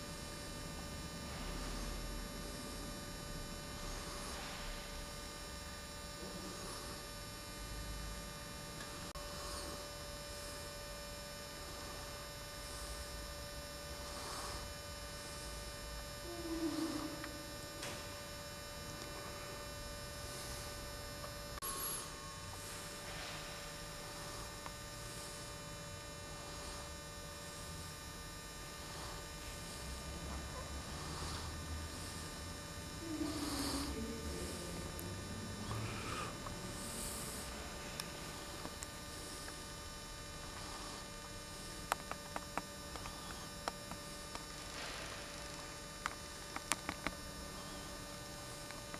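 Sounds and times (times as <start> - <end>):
electrical hum: 0.0 - 48.9
faint steady tones: 0.0 - 48.9.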